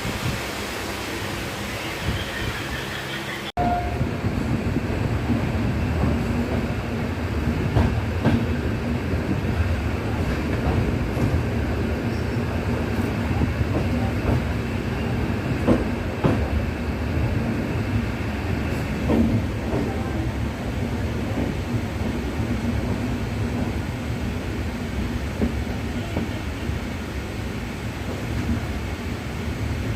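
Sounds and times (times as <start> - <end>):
train rumbling on rails: 0.0 - 29.9.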